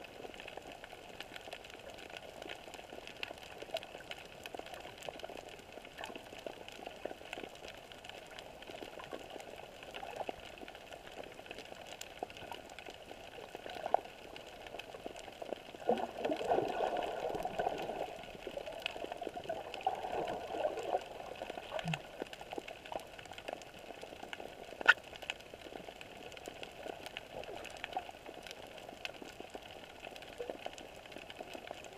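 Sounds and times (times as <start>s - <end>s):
underwater clicks and water noise: 0.0s - 31.9s.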